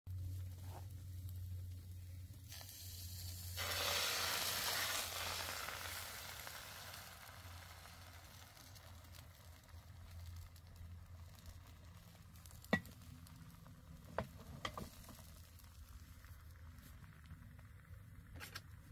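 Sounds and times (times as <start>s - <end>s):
egg sizzling in a hot pan: 0.1s - 18.3s.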